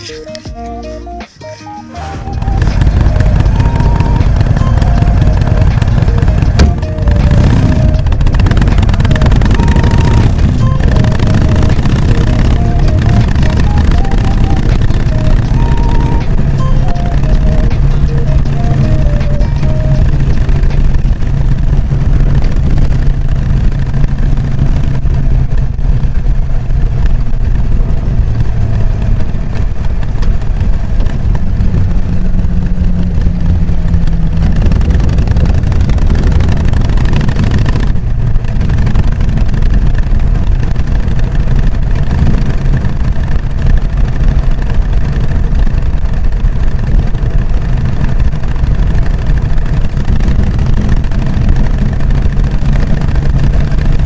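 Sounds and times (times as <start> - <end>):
motorcycle engine running: 1.9 - 54.0.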